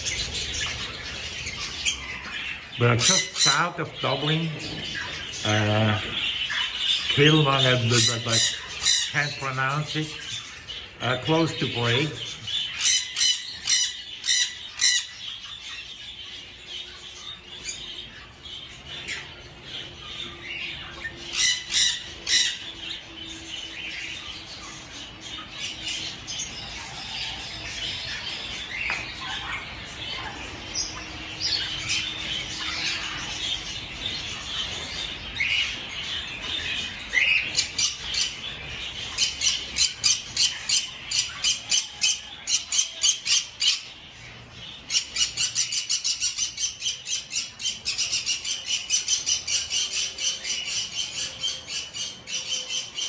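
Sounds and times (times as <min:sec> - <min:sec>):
caged birds chirping and squawking: 0:00.0 - 0:53.0
repeated sharp bird calls: 0:00.0 - 0:53.0.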